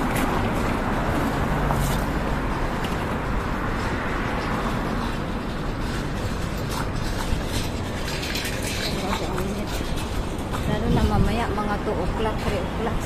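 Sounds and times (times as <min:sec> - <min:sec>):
cars driving past: 0:00.0 - 0:13.0
wind rumble on microphone: 0:00.0 - 0:13.0.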